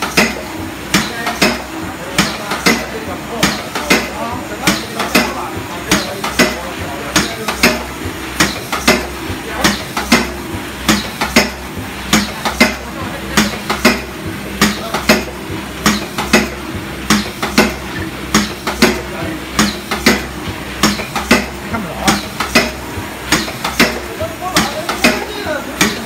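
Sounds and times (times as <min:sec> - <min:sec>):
low pulsing machine hum: 0:00.0 - 0:26.0.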